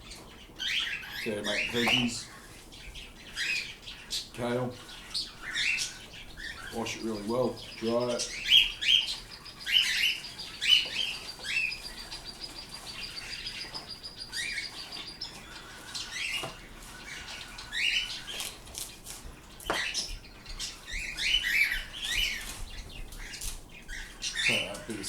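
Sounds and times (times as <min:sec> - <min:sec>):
pet birds chirping: 0:00.0 - 0:25.0.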